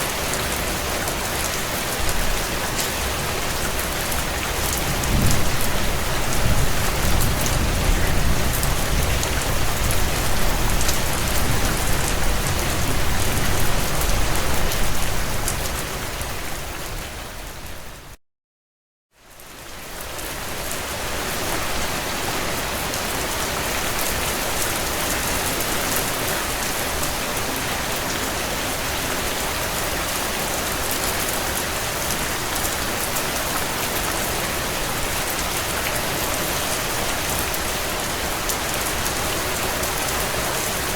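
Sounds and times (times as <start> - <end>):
heavy rain on a tin roof: 0.0 - 18.2, 19.2 - 40.9.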